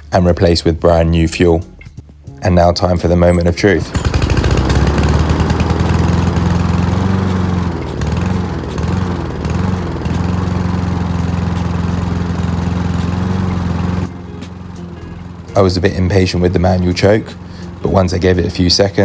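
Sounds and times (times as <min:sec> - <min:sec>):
lawnmower engine running: 0:03.2 - 0:19.0.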